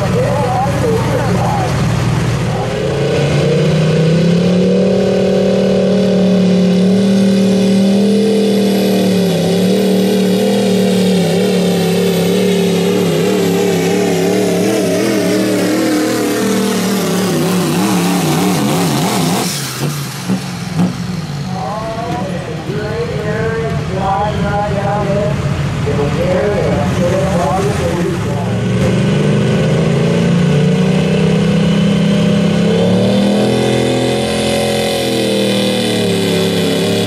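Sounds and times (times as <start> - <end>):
diesel truck engine at full throttle: 0.0 - 37.0.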